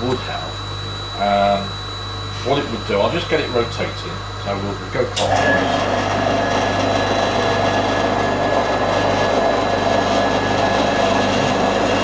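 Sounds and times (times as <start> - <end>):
motor hum with thin whine: 0.0 - 12.0.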